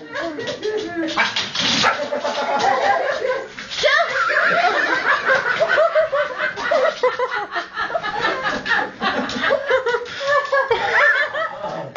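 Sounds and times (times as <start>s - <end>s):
people laughing: 1.8s - 11.9s.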